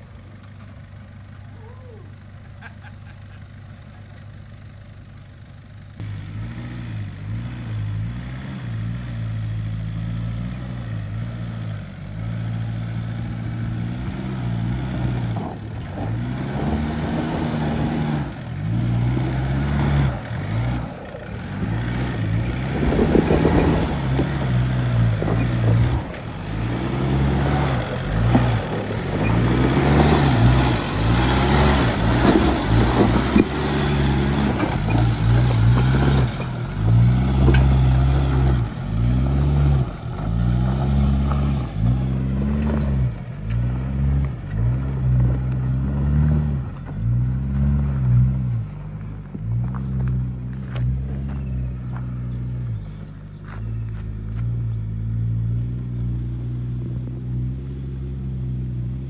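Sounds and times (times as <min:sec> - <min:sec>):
off-road vehicle engine revving: 0:05.8 - 0:59.0.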